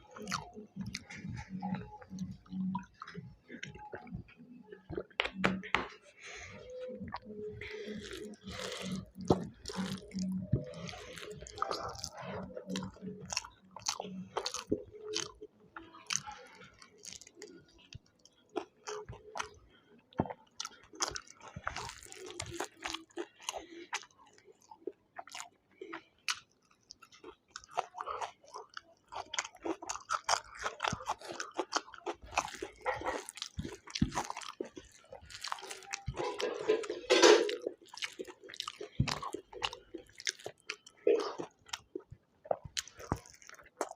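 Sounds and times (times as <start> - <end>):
person chewing food: 0.0 - 43.9
wet mouth sounds: 0.1 - 5.8, 6.8 - 15.4, 16.0 - 43.9.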